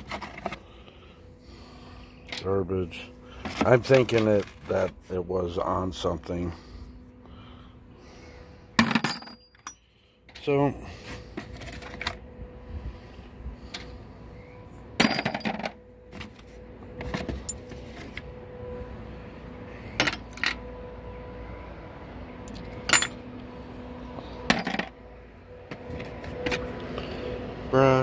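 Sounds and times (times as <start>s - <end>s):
faint steady hum: 0.0s - 27.7s.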